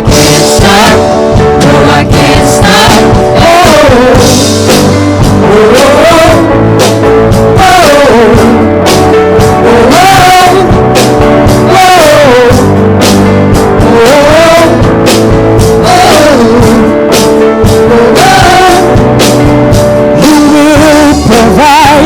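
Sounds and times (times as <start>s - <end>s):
live worship band playing: 0.0s - 22.0s.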